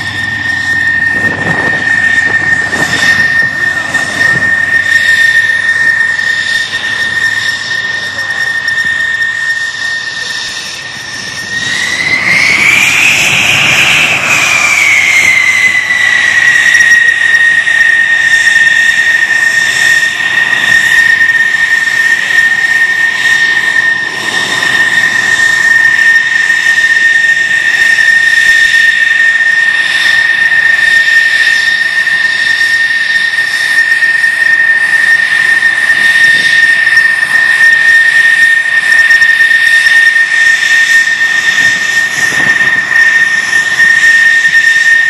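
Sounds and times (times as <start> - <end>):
jet engine whine: 0.0 - 45.0.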